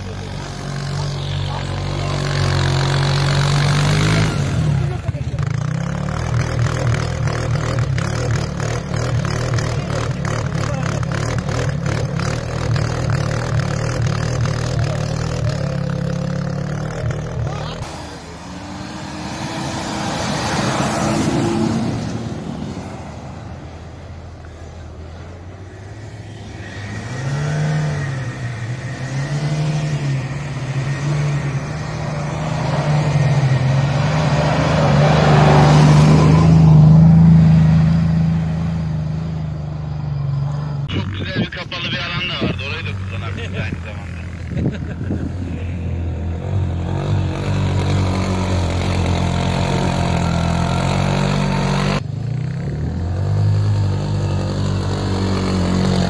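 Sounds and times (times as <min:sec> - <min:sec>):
vehicle engines revving: 0:00.0 - 0:56.0.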